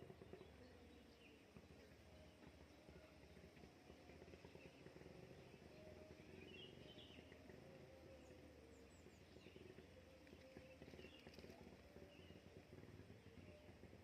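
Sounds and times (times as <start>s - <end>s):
distant small birds chirping: 0.0s - 14.0s
steady low background noise: 0.0s - 14.0s.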